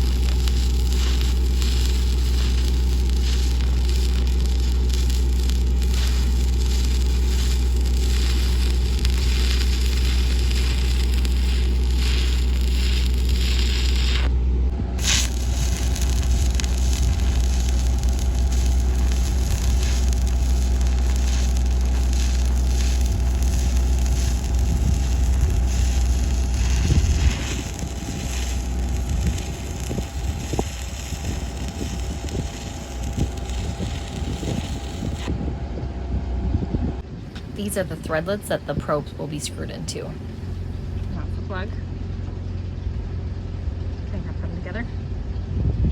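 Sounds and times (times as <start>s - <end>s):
welding arc crackling: 0.0s - 14.4s, 15.0s - 35.3s, 37.3s - 41.1s
wind on microphone: 0.0s - 41.2s, 45.4s - 45.9s
low rumble: 0.0s - 45.9s
steady low hum: 0.0s - 45.9s.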